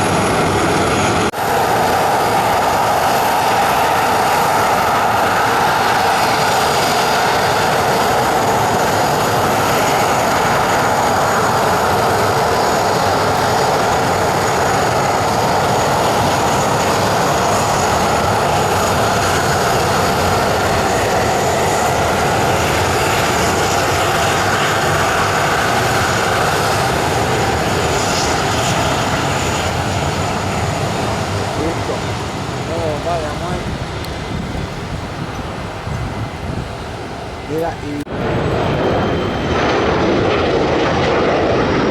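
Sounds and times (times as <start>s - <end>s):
jet engines at high power: 0.0s - 41.9s.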